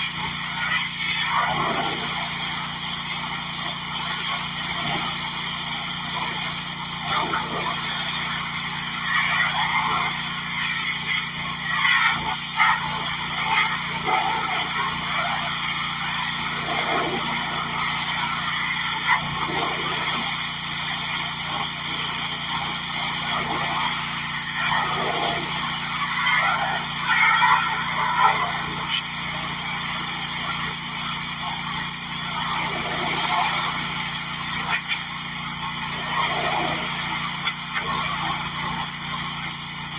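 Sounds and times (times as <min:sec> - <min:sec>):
pressure washer engine running: 0:00.0 - 0:39.9
water spray hissing on hard surface: 0:00.0 - 0:39.9.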